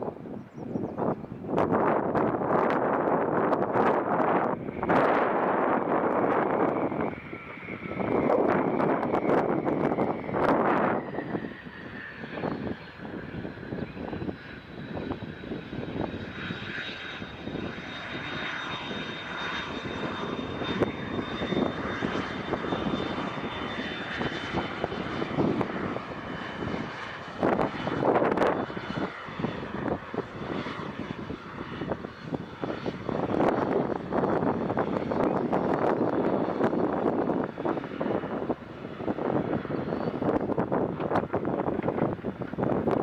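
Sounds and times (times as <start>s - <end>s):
airplane engine whine: 0.0s - 43.0s.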